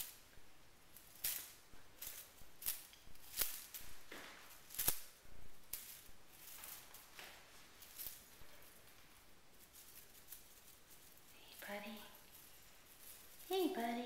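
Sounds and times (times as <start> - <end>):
feather toy swishing: 0.9 - 14.0.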